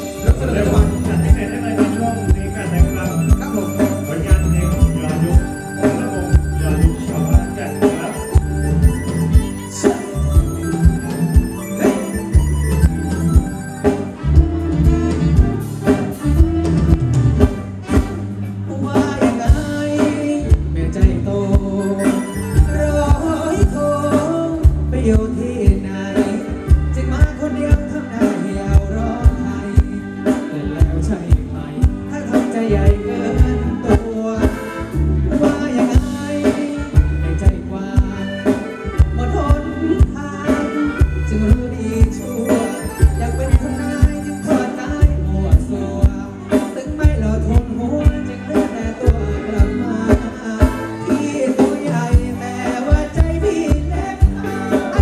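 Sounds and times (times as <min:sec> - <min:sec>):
person singing: 0:00.0 - 0:14.1, 0:18.7 - 0:55.0
electric guitars: 0:00.0 - 0:55.0
steady drum beat: 0:00.0 - 0:55.0.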